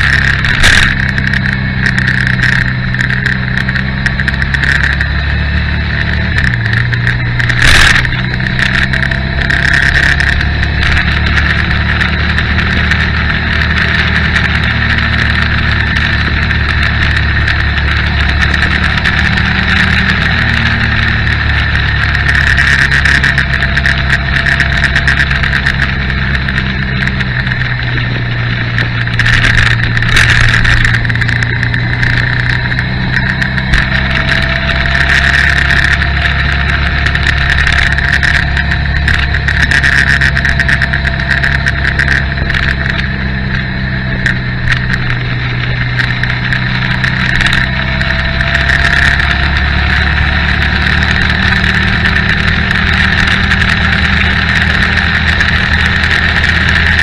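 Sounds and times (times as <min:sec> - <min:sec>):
motorcycle engine running: 0:00.0 - 0:57.0
rushing wind noise: 0:00.0 - 0:57.0.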